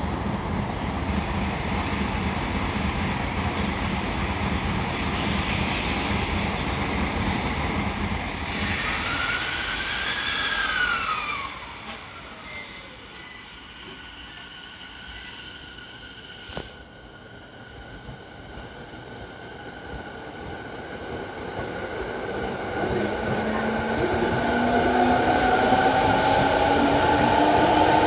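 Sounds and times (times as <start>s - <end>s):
train wheel and rail rumble: 0.0s - 28.0s.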